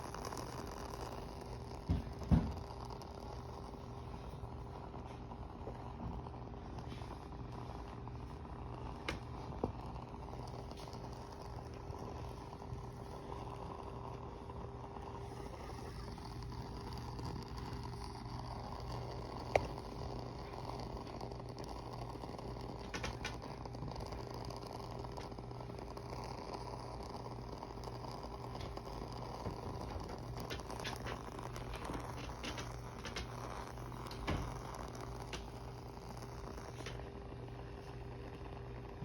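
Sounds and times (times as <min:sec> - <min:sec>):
candle crackling pops: 0:00.0 - 0:39.0
steady low hum: 0:00.0 - 0:39.0.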